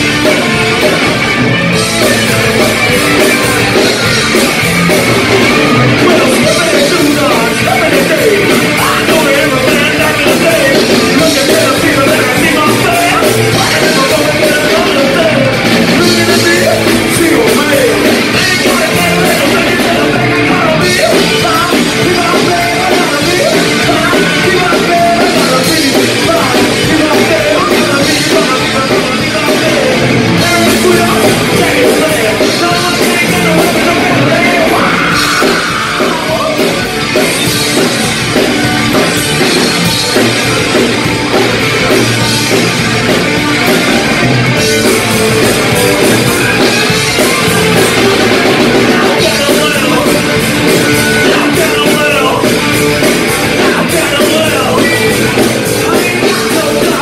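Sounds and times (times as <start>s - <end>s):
drum kit: 0.0s - 57.0s
electric guitars: 0.0s - 57.0s
man singing: 1.8s - 57.0s.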